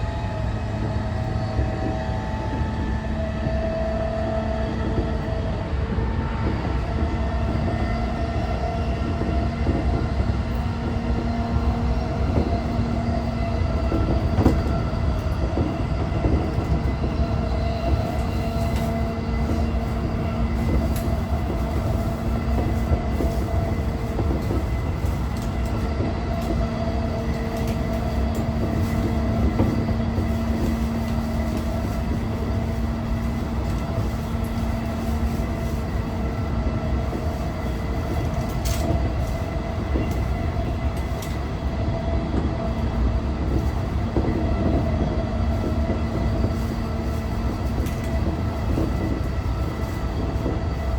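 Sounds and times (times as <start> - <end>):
train motor hum: 0.0 - 50.9
wheels rumbling on track: 0.0 - 50.9.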